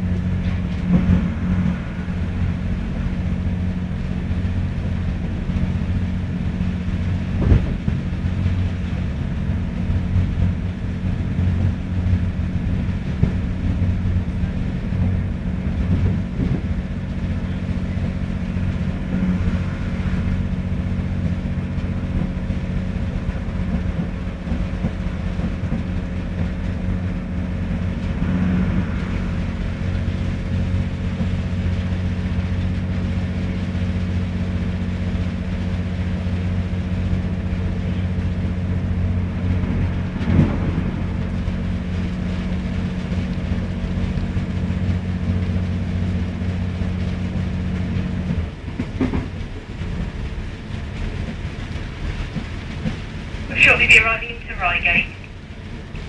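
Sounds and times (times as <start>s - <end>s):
train rumble and engine hum: 0.0s - 56.0s.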